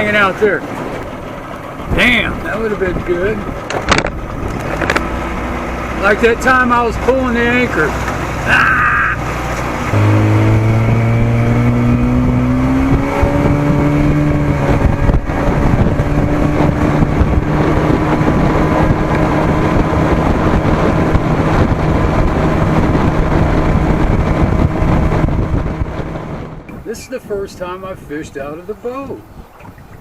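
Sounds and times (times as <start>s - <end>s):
outboard motor throttling up: 0.0s - 27.7s.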